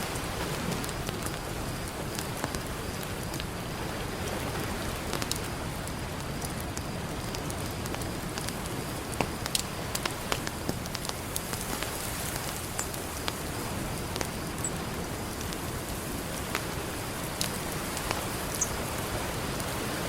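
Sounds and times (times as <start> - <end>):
campfire crackling and popping: 0.0 - 20.0
ocean surf: 0.0 - 20.0.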